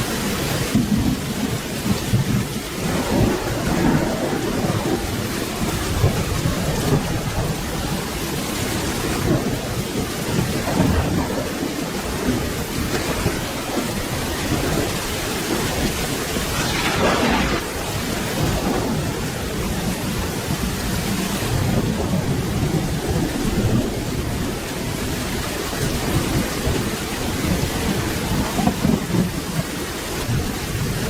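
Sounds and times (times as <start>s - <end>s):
steady rainfall: 0.0s - 31.0s
thunder rumbling: 0.0s - 31.0s.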